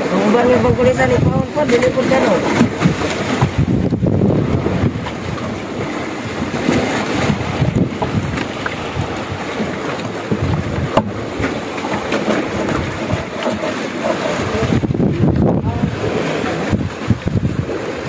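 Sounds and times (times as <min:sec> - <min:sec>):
wind and sea noise: 0:00.0 - 0:18.0
wind buffeting microphone: 0:00.0 - 0:18.0.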